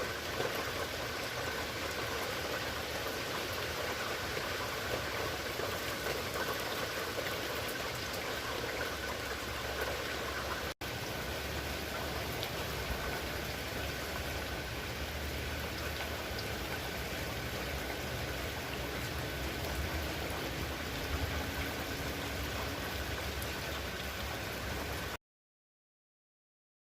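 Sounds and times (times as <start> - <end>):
steady rain pattering: 0.0 - 25.2.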